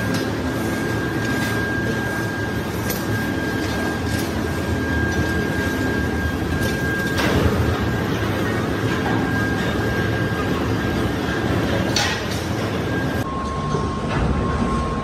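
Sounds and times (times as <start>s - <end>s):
factory machinery din: 0.0s - 15.0s
high machine whine: 0.0s - 15.0s.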